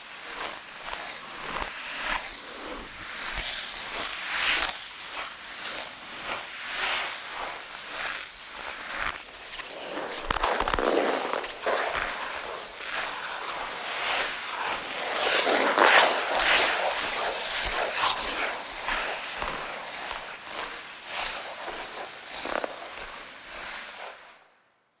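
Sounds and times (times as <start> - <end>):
ice skate blades scraping: 0.0 - 24.4.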